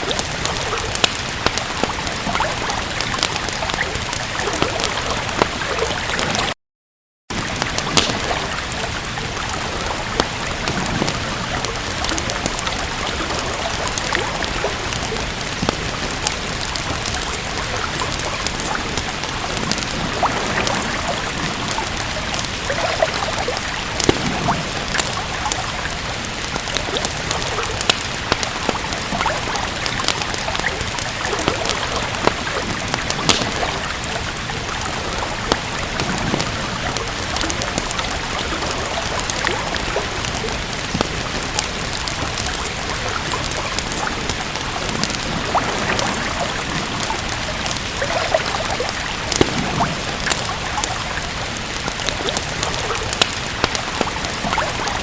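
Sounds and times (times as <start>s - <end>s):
rain hissing: 0.0s - 6.6s, 7.3s - 55.0s
wood fire crackling: 0.0s - 6.6s, 7.3s - 55.0s.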